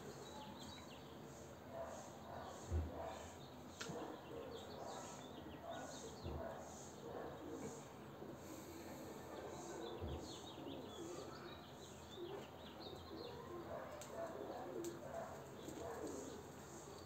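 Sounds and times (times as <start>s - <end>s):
pigeons cooing softly: 0.0s - 17.0s
small birds chirping: 0.0s - 17.0s.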